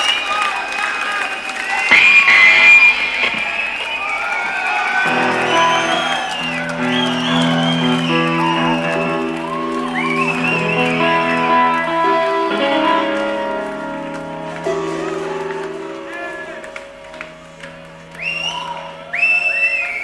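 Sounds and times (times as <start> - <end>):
crowd whistling and cheering: 0.0 - 20.0
sustained electric guitar notes: 1.9 - 19.2.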